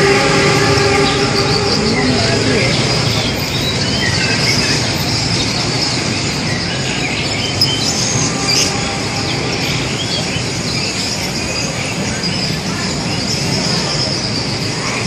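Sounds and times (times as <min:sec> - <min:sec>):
crowd hubbub: 0:00.0 - 0:15.0
motorbike traffic: 0:00.0 - 0:15.0
songbirds chirping: 0:00.0 - 0:15.0.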